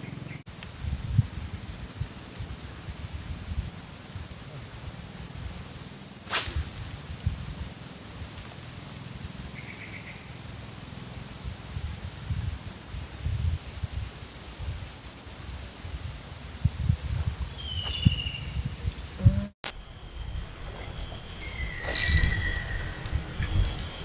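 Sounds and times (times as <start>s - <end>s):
insects chirring: 0.0s - 24.0s
wind gusts on microphone: 0.1s - 9.6s, 11.1s - 24.0s.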